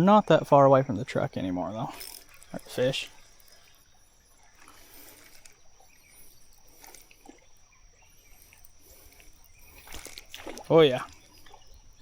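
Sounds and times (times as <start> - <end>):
faint high bird chirps: 0.0 - 12.0
high insect buzz: 0.0 - 12.0.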